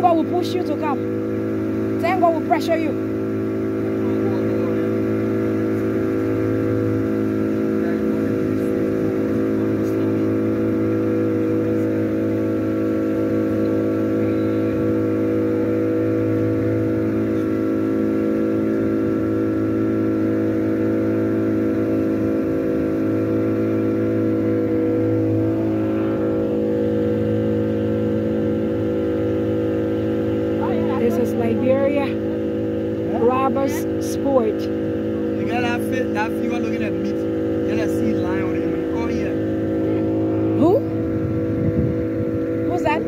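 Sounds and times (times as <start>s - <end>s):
motorboat engine droning: 0.0s - 43.0s.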